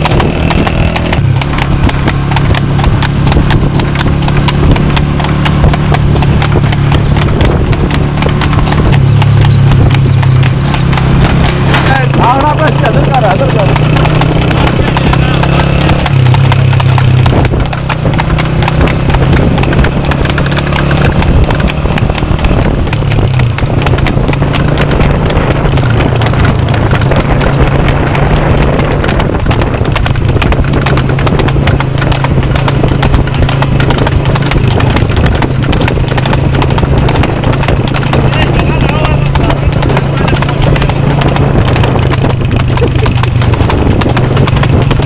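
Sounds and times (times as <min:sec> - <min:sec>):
horse hooves clip-clopping on asphalt: 0:00.0 - 0:45.0.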